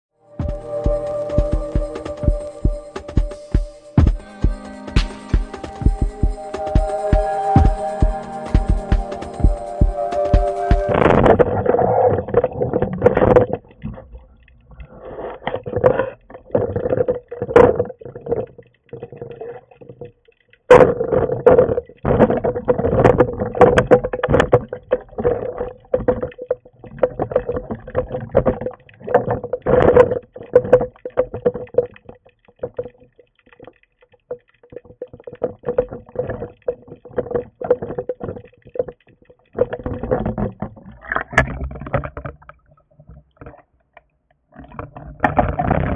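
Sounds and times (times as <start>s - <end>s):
rushing water: 0.3s - 43.7s, 44.5s - 45.9s
underwater clicks and knocks: 0.4s - 45.9s.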